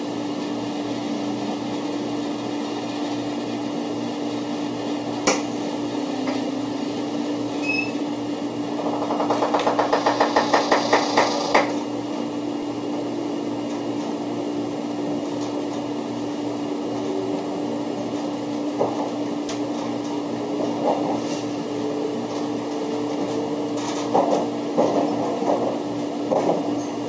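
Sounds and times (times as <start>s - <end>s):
train interior low hum: 0.0s - 10.0s, 11.6s - 27.0s.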